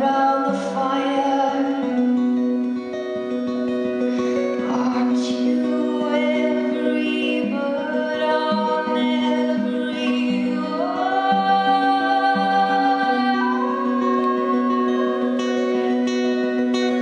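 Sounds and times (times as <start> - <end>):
woman singing: 0.0 - 2.2, 4.6 - 17.0.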